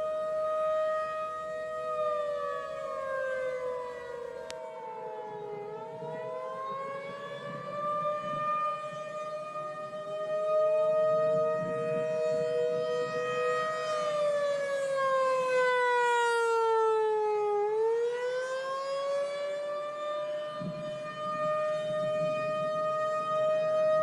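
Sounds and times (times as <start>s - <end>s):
two-tone siren wailing: 0.0s - 24.0s.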